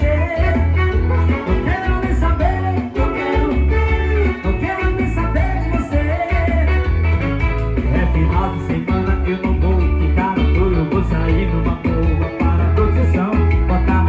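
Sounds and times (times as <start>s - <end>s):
guitar melody: 0.0s - 14.0s
heavy pulsing bass beat: 0.0s - 14.0s.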